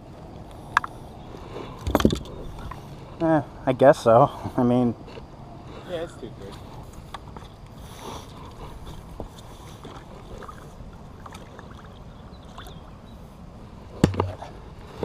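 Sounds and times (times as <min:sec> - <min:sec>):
boat rumble on a lake: 0:00.0 - 0:15.0.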